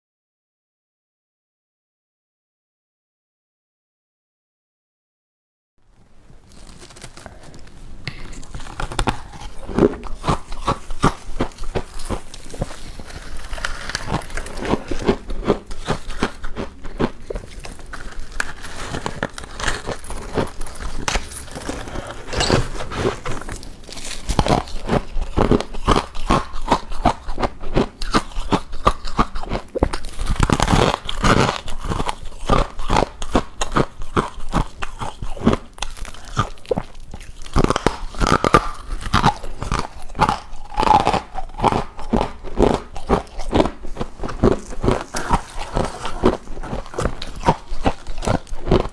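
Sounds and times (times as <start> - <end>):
person crunching ice: 6.4 - 48.9.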